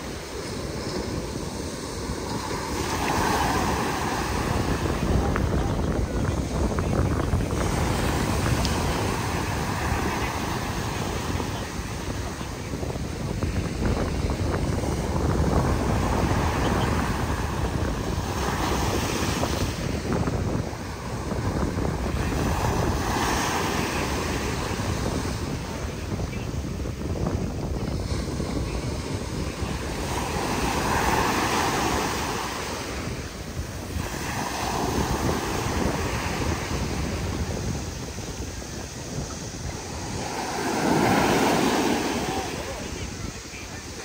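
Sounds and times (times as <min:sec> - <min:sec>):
surf breaking on beach: 0:00.0 - 0:44.0
wind buffeting microphone: 0:00.0 - 0:44.0.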